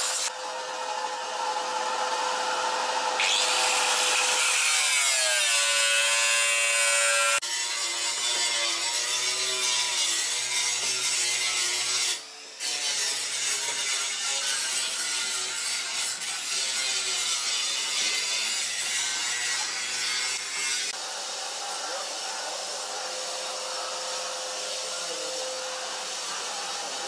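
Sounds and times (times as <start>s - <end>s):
power tool cutting: 0.0s - 27.0s.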